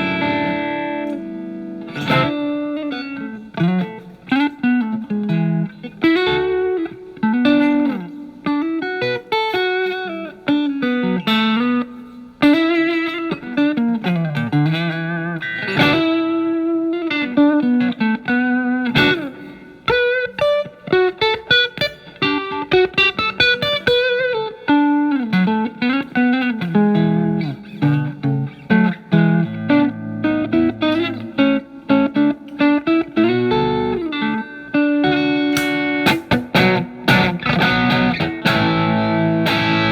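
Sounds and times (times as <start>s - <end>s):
electric guitar playing: 0.0s - 39.9s.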